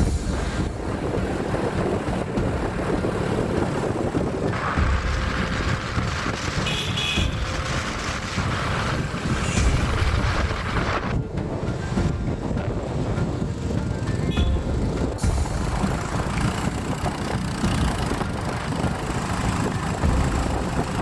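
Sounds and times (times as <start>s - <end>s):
wind buffeting microphone: 0.0s - 21.0s
motorcycles riding by: 0.2s - 21.0s.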